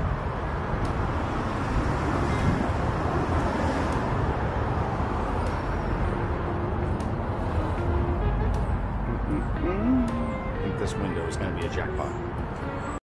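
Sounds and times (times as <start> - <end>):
passing cars: 0.0 - 13.0.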